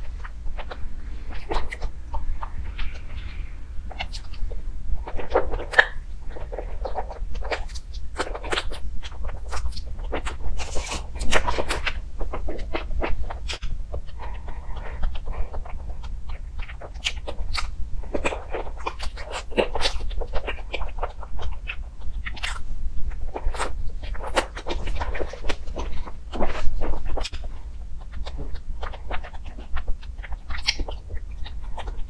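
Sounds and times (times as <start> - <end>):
mouth chewing soft cake: 0.0 - 32.0
steady low hum: 0.0 - 32.0.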